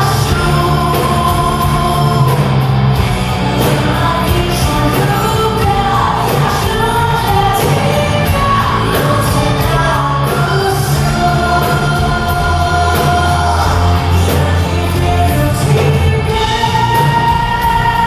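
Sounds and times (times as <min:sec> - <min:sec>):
rock band playing: 0:00.0 - 0:18.0
woman singing: 0:00.0 - 0:18.0.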